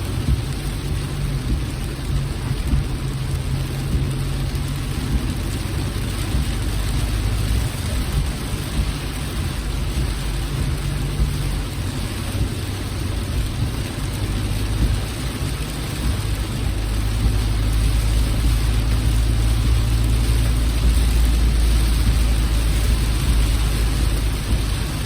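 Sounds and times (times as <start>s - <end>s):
engine and road noise: 0.0s - 25.0s
rain on a car: 0.0s - 25.0s.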